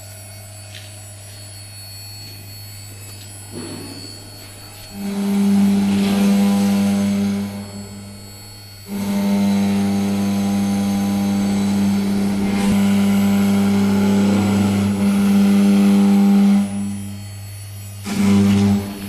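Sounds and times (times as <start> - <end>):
router spindle humming: 0.0 - 19.0.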